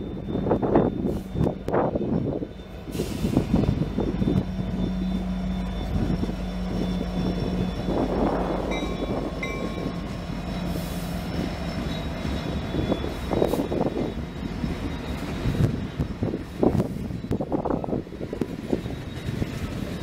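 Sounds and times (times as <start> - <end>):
diesel locomotives passing: 0.0 - 20.0
wheels rumbling on rails: 0.0 - 20.0.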